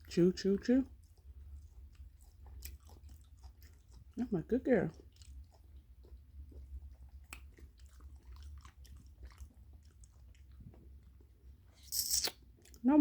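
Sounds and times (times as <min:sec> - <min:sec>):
low steady hum: 0:00.0 - 0:13.0
puppy chewing wet clicks: 0:00.0 - 0:13.0.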